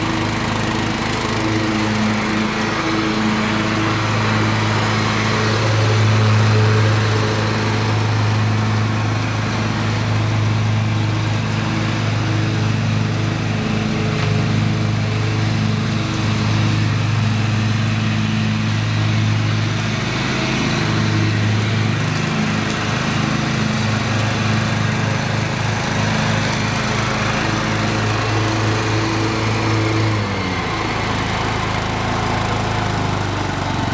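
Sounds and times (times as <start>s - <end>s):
riding mower engine running: 0.0s - 33.9s.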